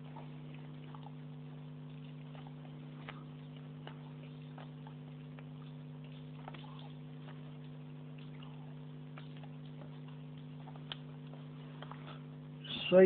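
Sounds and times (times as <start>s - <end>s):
small clicks and ticks: 0.0s - 12.5s
low electrical hum: 0.0s - 13.0s.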